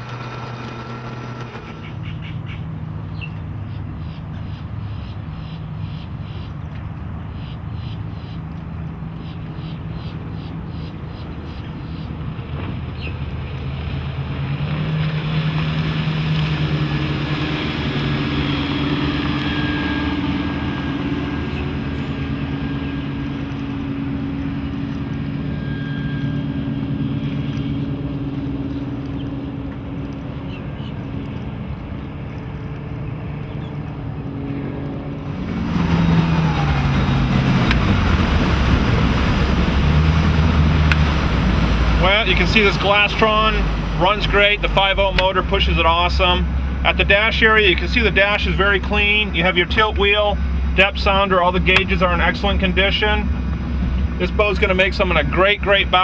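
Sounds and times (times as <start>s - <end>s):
boat engine running: 0.0s - 56.0s
water noise: 0.0s - 56.0s.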